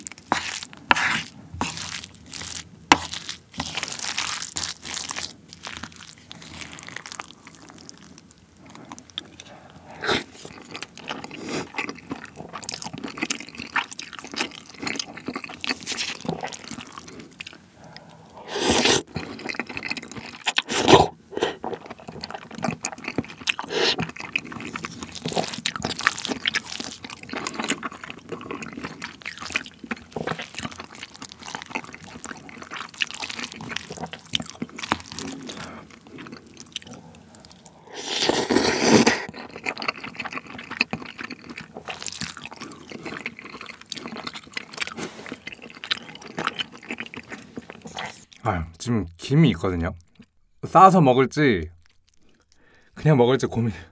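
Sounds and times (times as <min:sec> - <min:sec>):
mouth chewing and smacking: 0:00.0 - 0:48.5, 0:50.0 - 0:50.4, 0:51.6 - 0:52.9.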